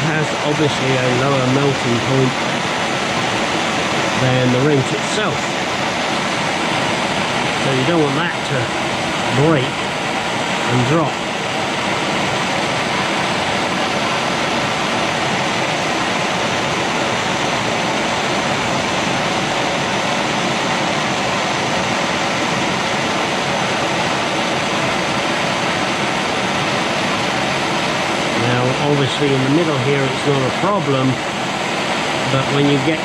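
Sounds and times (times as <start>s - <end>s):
heat tool blowing: 0.0s - 33.0s.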